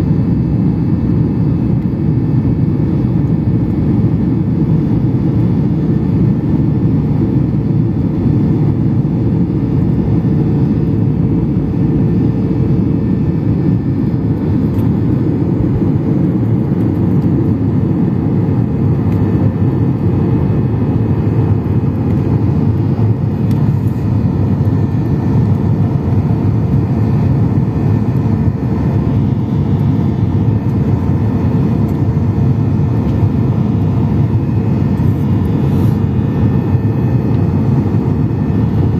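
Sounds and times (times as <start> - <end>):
airplane cabin jet engine rush: 0.0 - 38.9.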